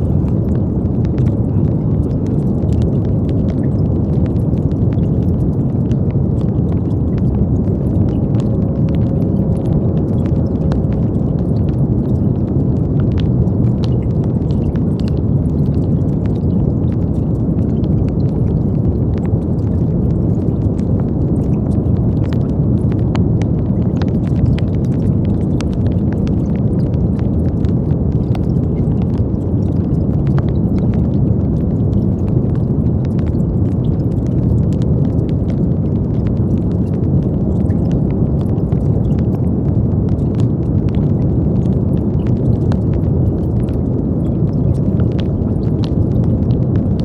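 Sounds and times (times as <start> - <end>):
brown noise: 0.0 - 47.0.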